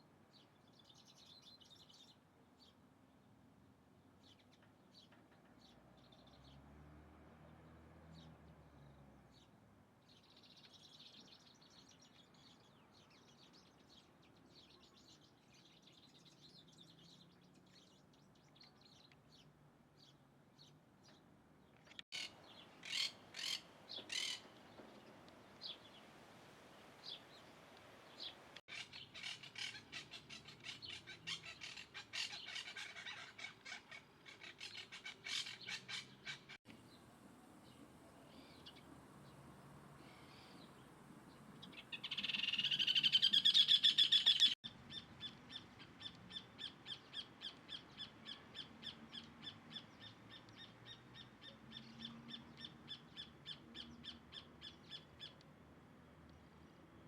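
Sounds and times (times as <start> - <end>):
small birds chirping: 0.3 - 3.4, 7.4 - 26.1, 26.7 - 57.0.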